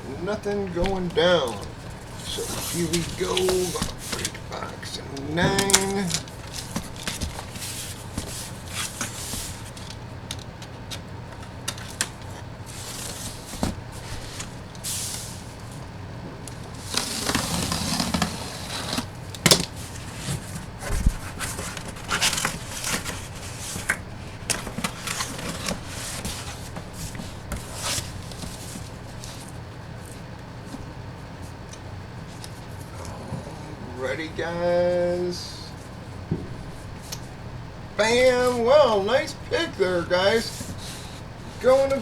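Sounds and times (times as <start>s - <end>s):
cardboard and plastic rustling: 0.0s - 33.5s, 38.0s - 42.0s.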